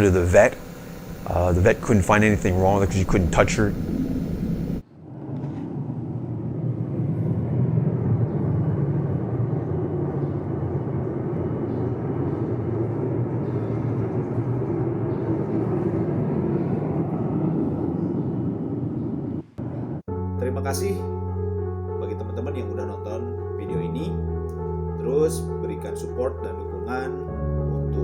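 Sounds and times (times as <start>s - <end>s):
low rumbling hum: 0.0s - 28.0s.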